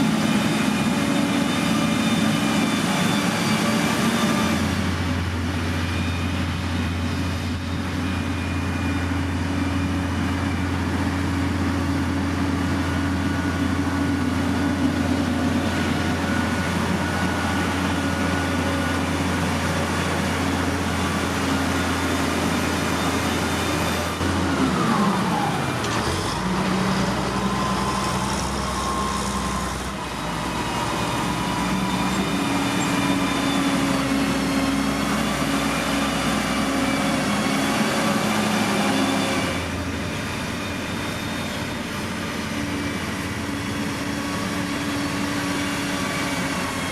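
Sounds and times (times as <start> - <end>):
engine drone: 0.0 - 46.9
heavy machinery engines humming: 0.0 - 46.9.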